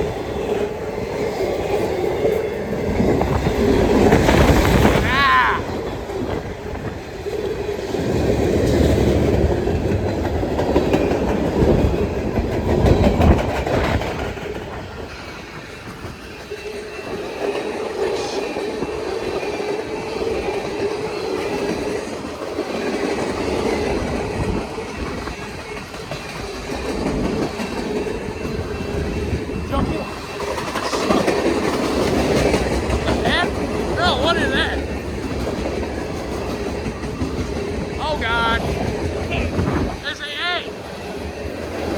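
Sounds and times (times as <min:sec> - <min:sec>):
wind buffeting microphone: 0:00.0 - 0:40.2
train wheels clacking on rail joints: 0:05.9 - 0:40.0.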